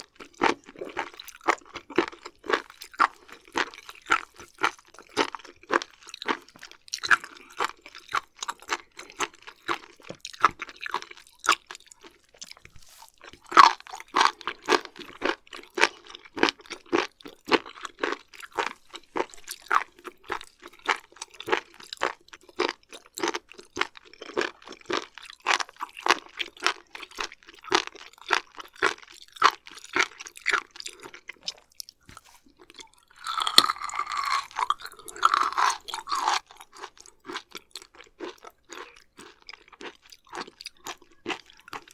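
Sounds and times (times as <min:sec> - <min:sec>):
wet crunchy chewing: 0:00.0 - 0:41.9.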